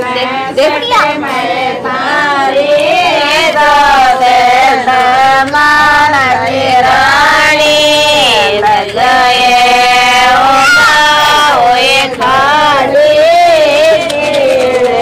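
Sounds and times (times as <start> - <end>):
woman singing devotional song: 0.0 - 15.0.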